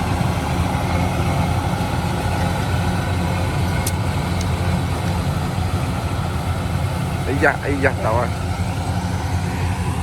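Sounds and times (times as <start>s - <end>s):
heavy engine rumbling: 0.0s - 10.0s.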